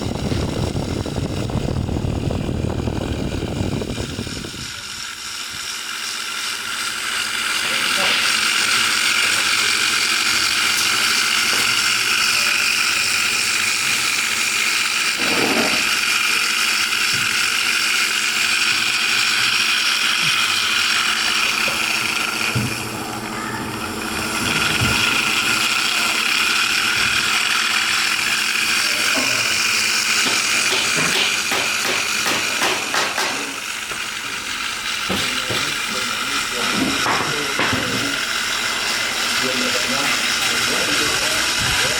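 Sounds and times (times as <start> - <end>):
small electric motor whining: 0.0 - 41.9.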